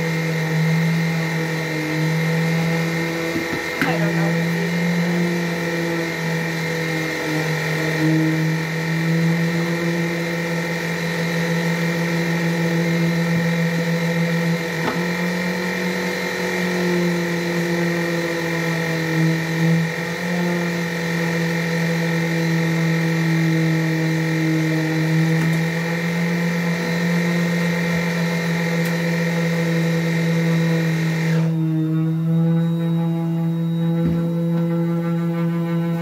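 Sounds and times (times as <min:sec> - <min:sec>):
motor droning hum: 0:00.0 - 0:36.0.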